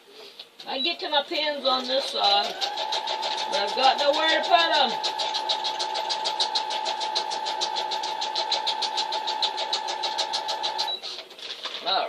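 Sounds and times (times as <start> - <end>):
sewing machine stitching: 1.4 - 12.0.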